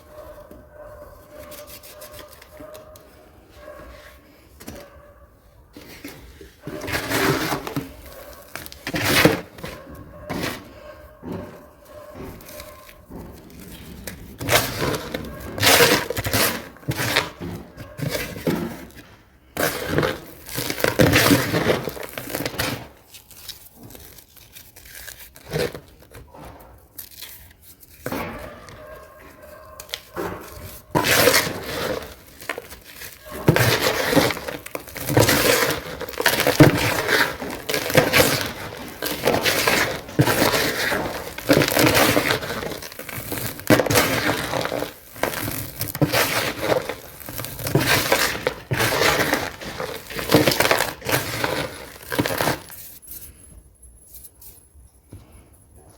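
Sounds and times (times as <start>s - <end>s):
cement crumbling and crushing: 5.7s - 53.3s.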